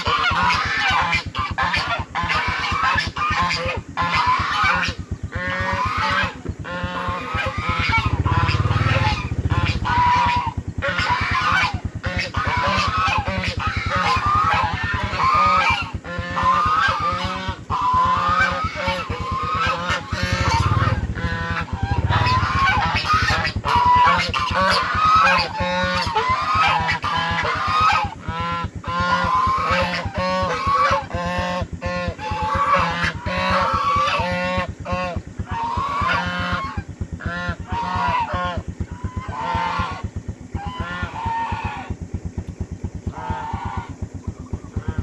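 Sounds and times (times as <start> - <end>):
goose honking: 0.0 - 42.0, 43.1 - 43.9.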